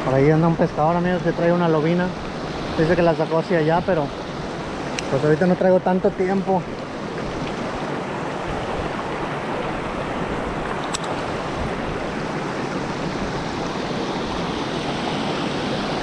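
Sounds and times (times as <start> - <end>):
river water rushing over weir: 0.0 - 16.0.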